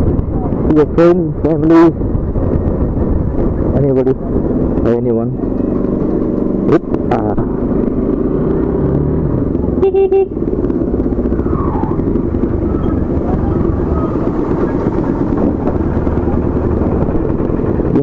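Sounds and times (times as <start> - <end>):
motorcycle engine running: 0.0 - 18.0
wind rumble: 0.0 - 18.0.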